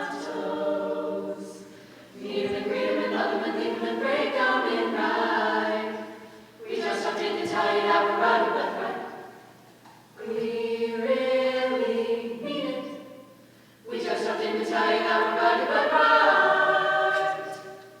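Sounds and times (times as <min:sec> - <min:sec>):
a cappella group singing: 0:00.0 - 0:09.6, 0:10.2 - 0:18.0.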